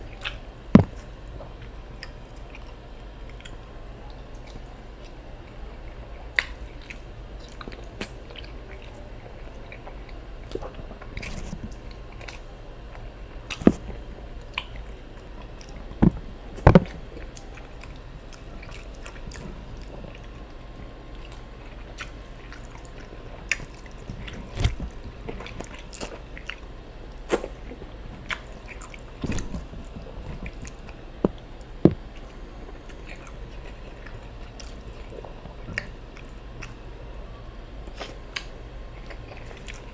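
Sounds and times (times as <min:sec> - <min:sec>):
chewing and mouth sounds: 0:00.0 - 0:39.9
steady low hum: 0:00.0 - 0:39.9.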